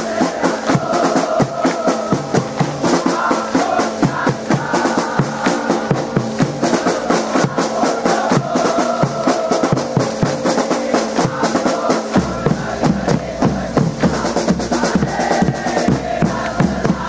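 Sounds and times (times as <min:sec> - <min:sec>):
drums beating fast rhythm: 0:00.0 - 0:17.0.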